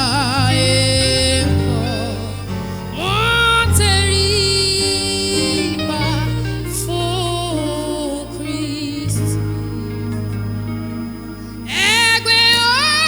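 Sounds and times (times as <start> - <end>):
person singing with vibrato: 0.0 - 10.7, 11.6 - 13.0
bass and instrumental accompaniment: 0.0 - 13.0.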